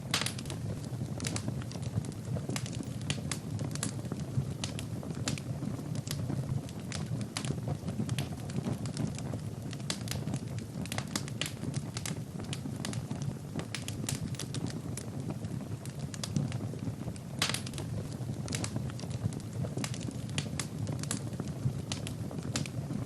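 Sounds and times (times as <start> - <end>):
fire crackling and popping: 0.0 - 23.0
low rumble of flames: 0.0 - 23.0.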